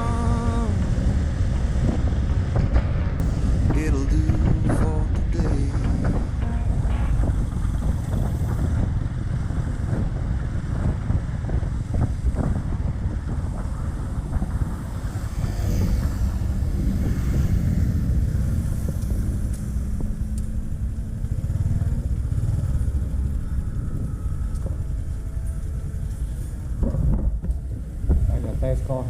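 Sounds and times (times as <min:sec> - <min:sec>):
motorcycle engine rumble: 0:00.0 - 0:29.0.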